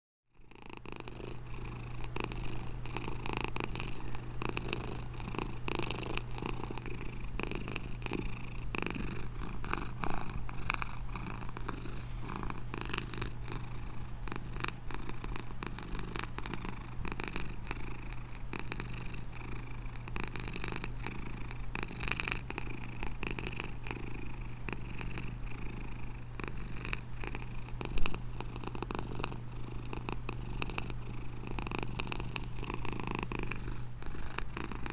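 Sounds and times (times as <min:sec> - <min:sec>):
cat purring: 0:00.3 - 0:34.9.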